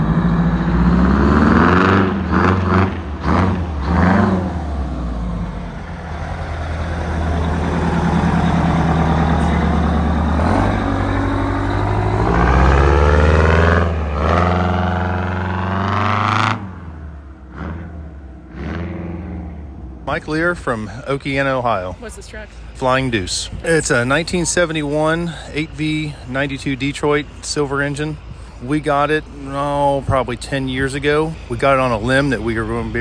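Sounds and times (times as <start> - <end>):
diesel truck engine revving: 0.0 - 33.0.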